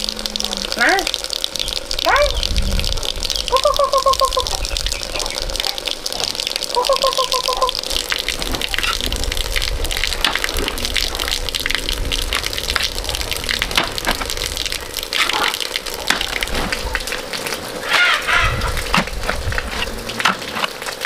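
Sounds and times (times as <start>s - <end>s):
water gushing and splashing: 0.0s - 21.0s.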